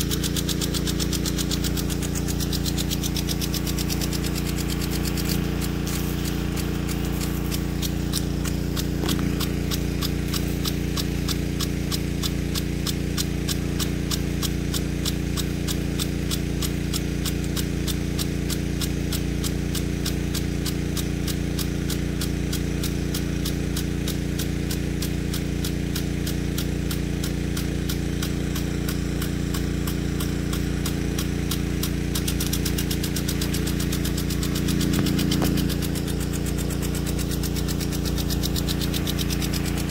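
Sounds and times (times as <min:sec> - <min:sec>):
impact sprinkler ticking: 0:00.0 - 0:39.9
pump droning: 0:00.0 - 0:39.9.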